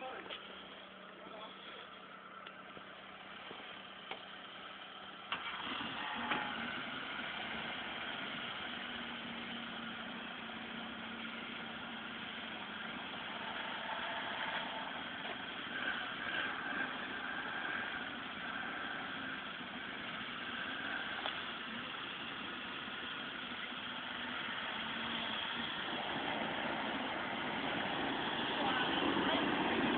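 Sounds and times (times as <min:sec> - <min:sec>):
vehicle engine idling: 0:00.0 - 0:29.9.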